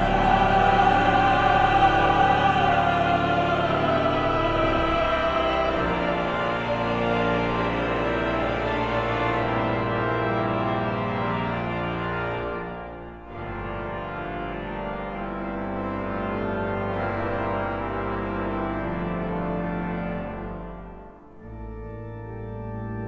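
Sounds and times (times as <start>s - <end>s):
organ playing sustained chords: 0.0s - 23.0s.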